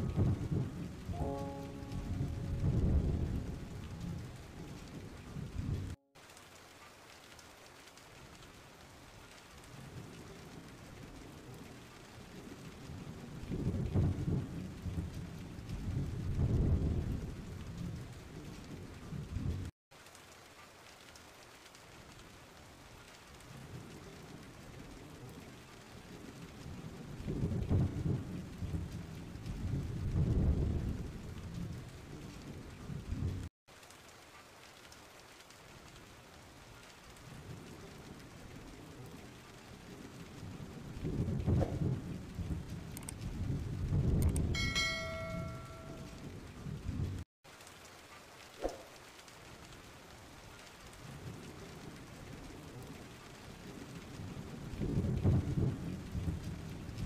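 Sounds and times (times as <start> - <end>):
low rolls of thunder: 0.0 - 6.0, 9.1 - 19.7, 22.1 - 33.5, 35.8 - 47.2, 49.6 - 57.0
steady rain: 0.0 - 57.0.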